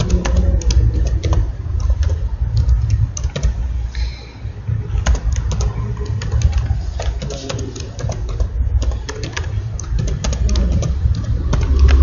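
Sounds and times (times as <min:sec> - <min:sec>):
keyboard typing clicks: 0:00.0 - 0:03.6, 0:04.9 - 0:12.0
steady low rumble: 0:00.0 - 0:07.0, 0:08.1 - 0:12.0.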